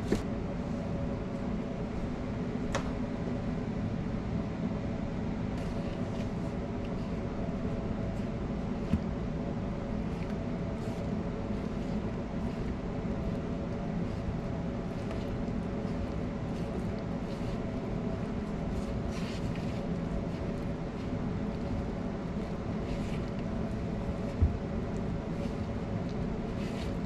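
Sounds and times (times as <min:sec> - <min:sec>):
mechanical hum: 0:00.0 - 0:27.0.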